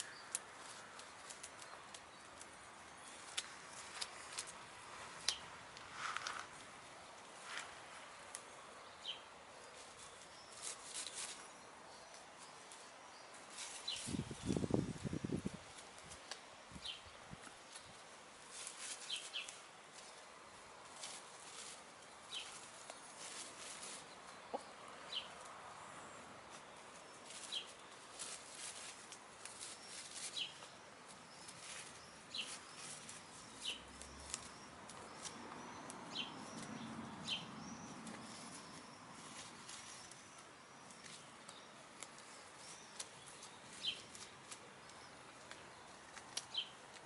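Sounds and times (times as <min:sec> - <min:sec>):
hens pecking and scratching: 0:00.0 - 0:47.0.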